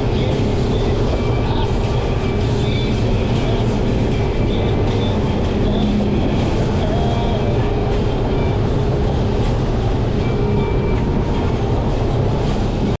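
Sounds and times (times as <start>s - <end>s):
boat engines rumbling: 0.0s - 13.0s
faint engine whine: 0.0s - 13.0s.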